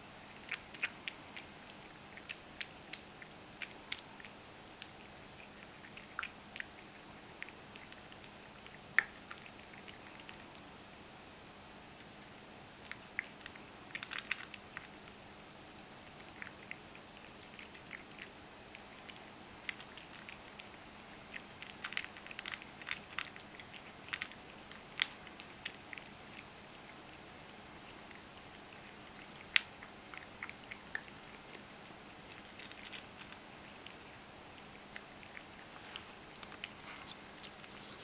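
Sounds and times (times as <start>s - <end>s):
cat crunching dry kibble: 0.2s - 10.6s, 12.0s - 38.0s.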